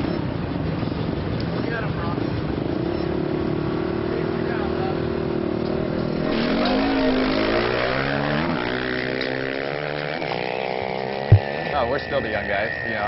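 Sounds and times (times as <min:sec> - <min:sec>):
motorcycle engine running hard: 0:00.0 - 0:11.6.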